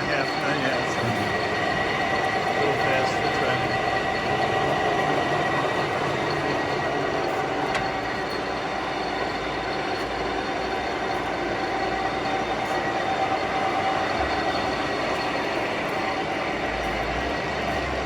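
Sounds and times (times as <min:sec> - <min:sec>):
lathe headstock whine: 0:00.0 - 0:18.0.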